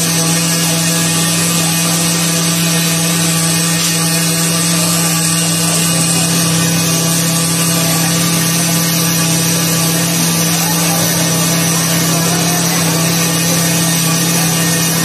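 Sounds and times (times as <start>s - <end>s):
machine motors humming: 0.0s - 15.0s.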